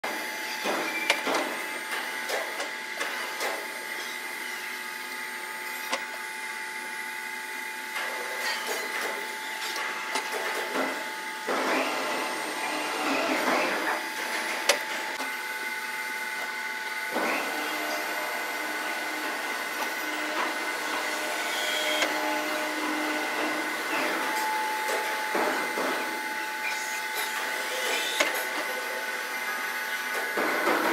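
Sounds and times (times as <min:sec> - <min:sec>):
high machine whine: 0:00.0 - 0:30.9.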